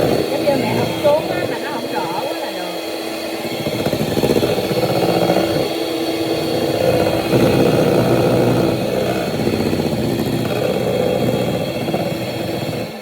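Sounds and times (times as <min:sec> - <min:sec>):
electric hand mixer whipping: 0:00.0 - 0:13.0.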